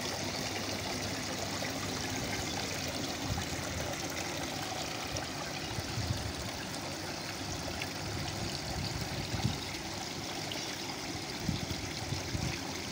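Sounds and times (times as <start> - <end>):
water pouring into basins: 0.0 - 12.9
water trickling and splashing: 0.0 - 12.9.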